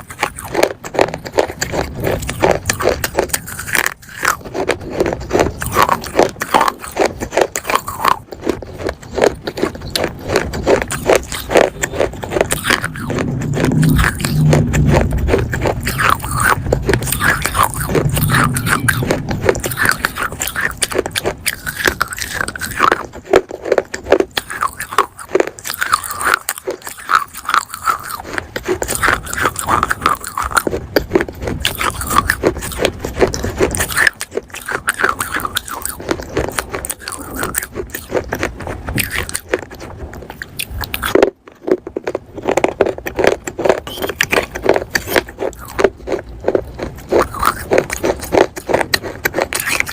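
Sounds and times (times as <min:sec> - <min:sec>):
chewing crunchy clay: 0:00.0 - 0:49.9.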